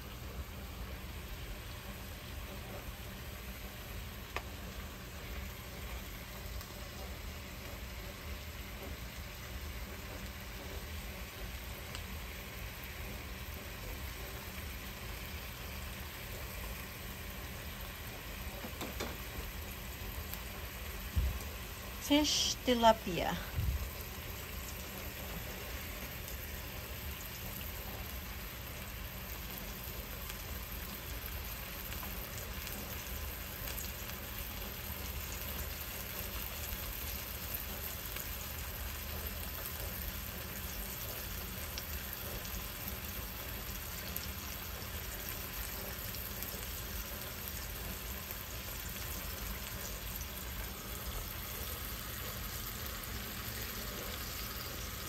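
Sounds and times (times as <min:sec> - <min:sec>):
fish frying in butter: 0:00.0 - 0:55.0.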